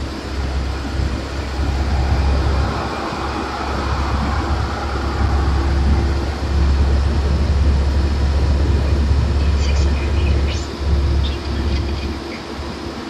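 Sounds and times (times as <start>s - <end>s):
vehicle cabin road rumble: 0.0s - 13.0s.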